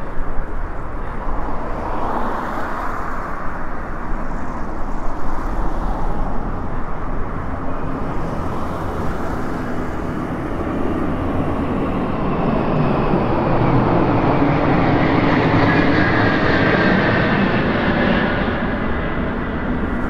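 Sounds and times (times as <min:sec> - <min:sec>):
aircraft engines droning overhead: 0:00.0 - 0:20.0
wind rush: 0:00.0 - 0:20.0.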